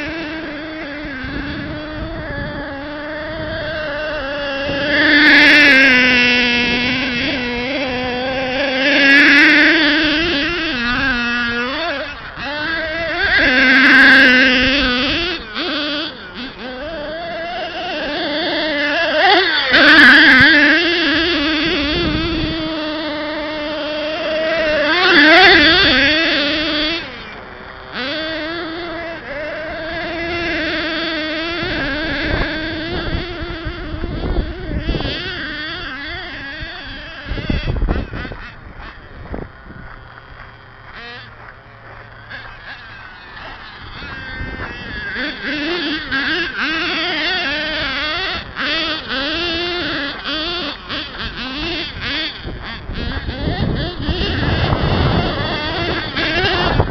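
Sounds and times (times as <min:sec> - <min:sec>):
small engine revving high: 0:00.0 - 0:56.9.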